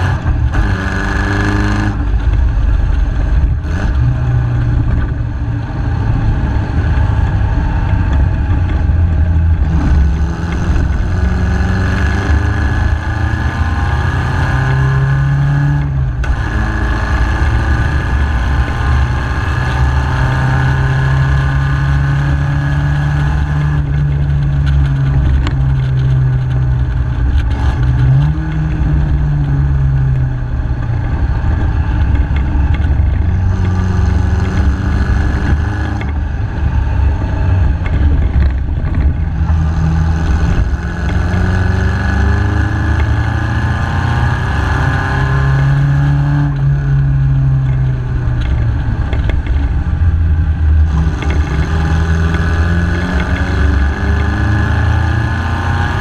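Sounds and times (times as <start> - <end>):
constant low rumble: 0.0 - 56.0
racing car engine accelerating: 0.0 - 56.0.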